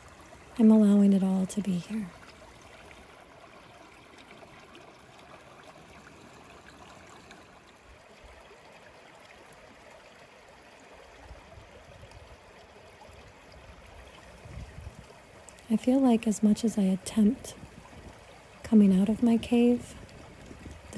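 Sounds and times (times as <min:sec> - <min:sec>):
stream running over rocks: 0:00.0 - 0:20.9.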